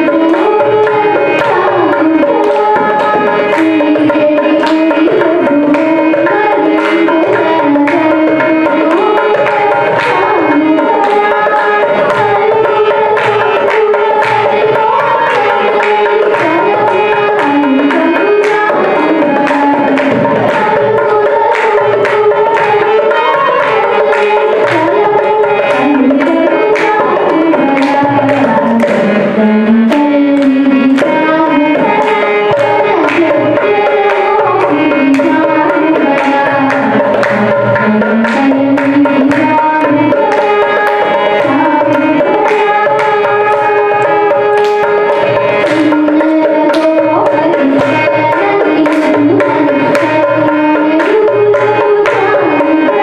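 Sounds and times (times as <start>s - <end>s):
girl singing into a microphone: 0.0s - 53.0s
tabla strokes: 0.0s - 53.0s.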